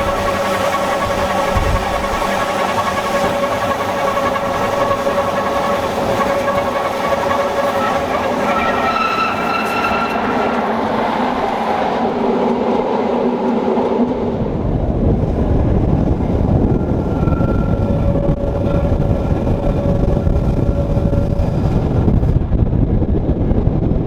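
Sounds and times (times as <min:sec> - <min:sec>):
train wheels squealing: 0:00.0 - 0:12.9, 0:15.0 - 0:22.4
train low rumble: 0:00.0 - 0:24.0.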